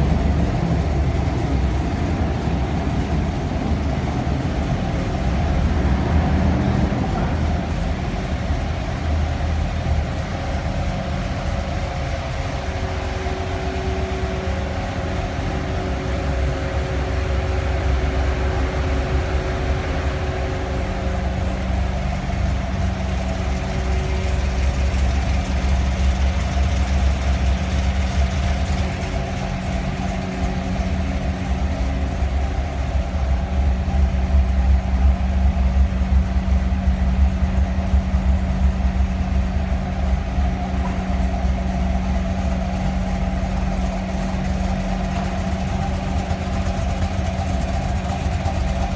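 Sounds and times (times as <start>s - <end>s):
rough car engine idling: 0.0s - 48.9s.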